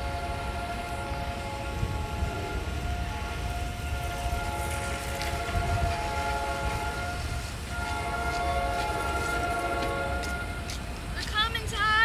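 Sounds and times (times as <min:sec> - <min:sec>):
train horn blasts: 0:00.0 - 0:12.0.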